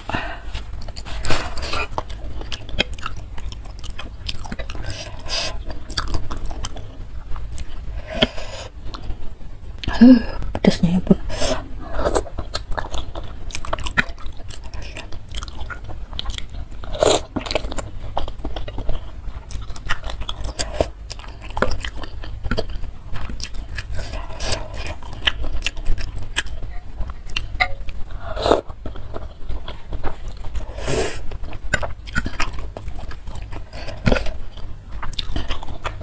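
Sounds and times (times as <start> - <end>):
chewing and biting: 0.5 - 9.2, 11.8 - 36.0.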